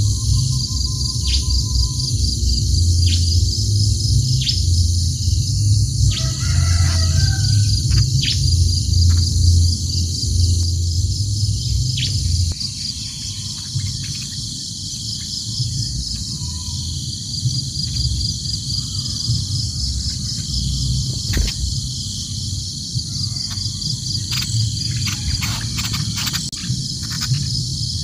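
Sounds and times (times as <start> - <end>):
insects buzzing: 0.0 - 28.0
low rumble: 0.0 - 28.0.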